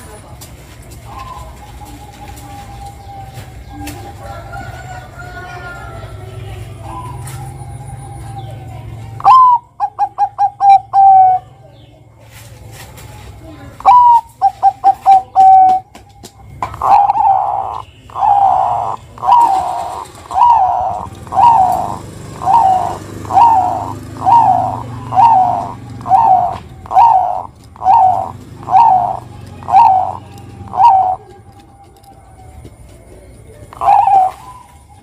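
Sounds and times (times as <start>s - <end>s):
dove singing: 0.0s - 35.0s
dove cooing: 1.0s - 11.6s, 13.7s - 35.0s.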